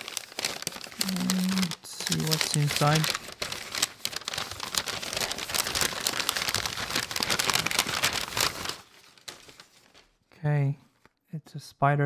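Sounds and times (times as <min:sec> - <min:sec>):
packing wrap crinkling: 0:00.0 - 0:10.2.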